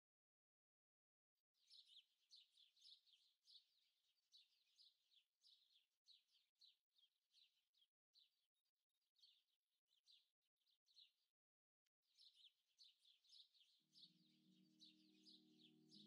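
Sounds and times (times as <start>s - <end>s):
faint small birds chirping: 1.4s - 16.0s.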